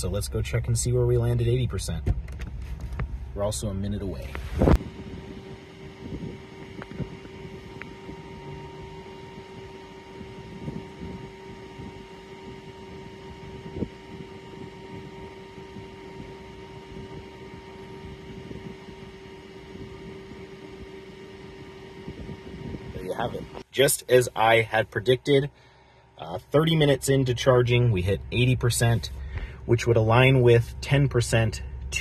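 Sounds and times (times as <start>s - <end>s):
charger humming: 0.0s - 32.0s.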